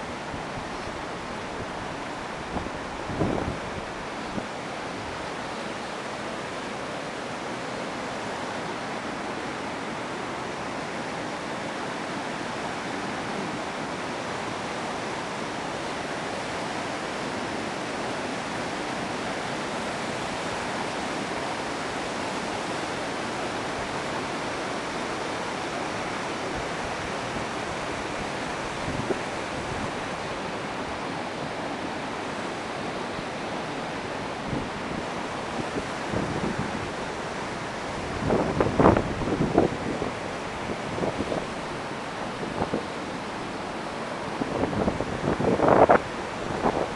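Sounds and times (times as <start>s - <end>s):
water rushing: 0.0s - 46.9s.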